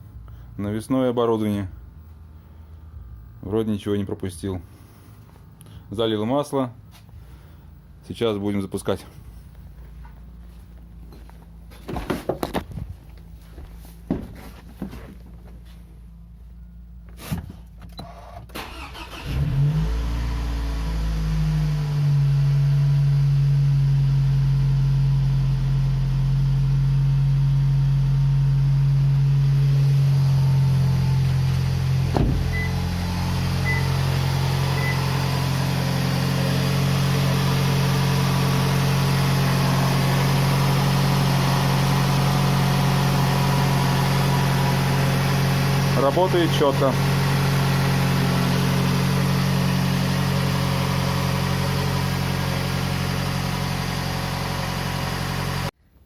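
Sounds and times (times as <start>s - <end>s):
car engine starting and idling: 9.8s - 55.8s.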